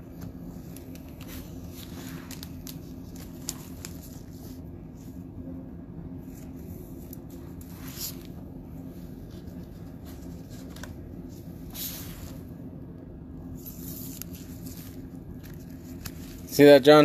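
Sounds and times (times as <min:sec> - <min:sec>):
steady low hum: 0:00.0 - 0:17.0
cards rustling: 0:00.1 - 0:05.2, 0:06.2 - 0:12.6, 0:13.5 - 0:17.0.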